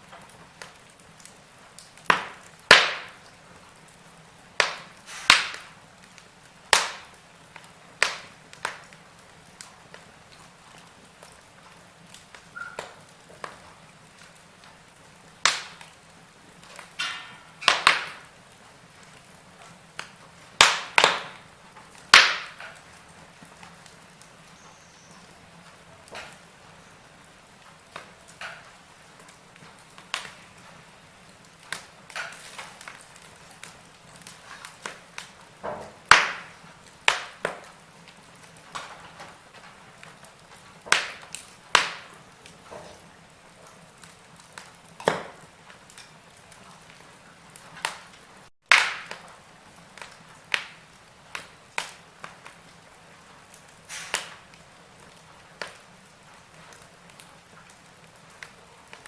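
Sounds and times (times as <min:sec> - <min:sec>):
faint steady background noise: 0:00.0 - 0:59.0
wood fire crackling: 0:00.0 - 0:59.0.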